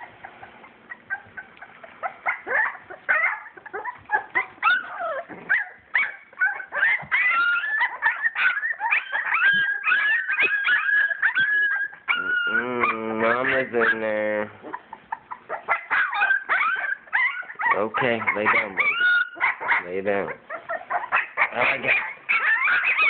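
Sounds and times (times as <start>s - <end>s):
puppies whimpering and whining: 0.0s - 23.0s.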